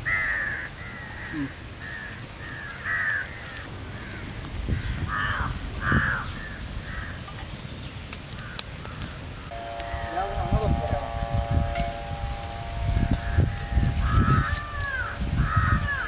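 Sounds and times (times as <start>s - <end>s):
crows cawing: 0.0s - 7.3s, 8.4s - 10.5s, 12.2s - 16.0s.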